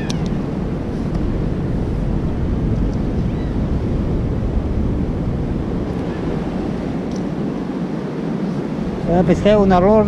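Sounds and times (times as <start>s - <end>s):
sea surf washing: 0.0s - 10.0s
wind buffeting microphone: 0.0s - 10.0s.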